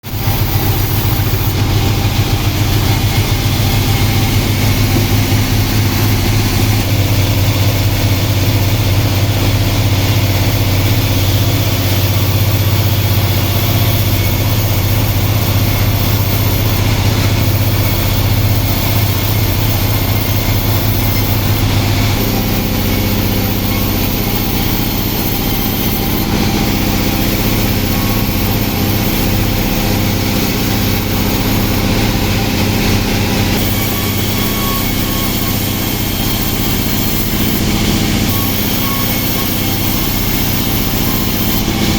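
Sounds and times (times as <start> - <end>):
sawmill saw cutting wood: 0.0 - 41.9.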